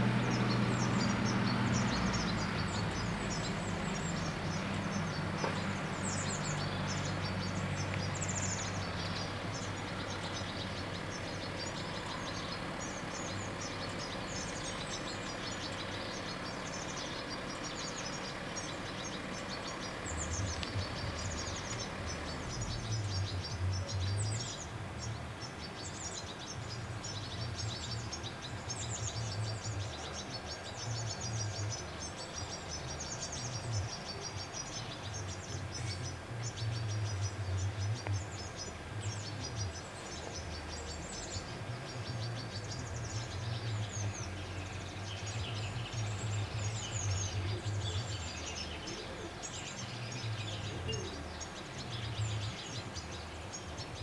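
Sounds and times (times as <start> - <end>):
outdoor ambience: 0.0 - 54.0
small birds chirping: 0.0 - 54.0.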